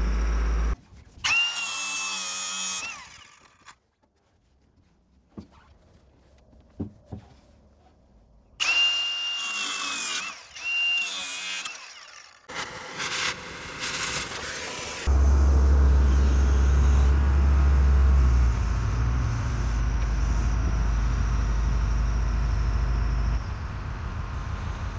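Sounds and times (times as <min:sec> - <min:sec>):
power tool whine: 0:00.0 - 0:03.8, 0:08.6 - 0:24.9.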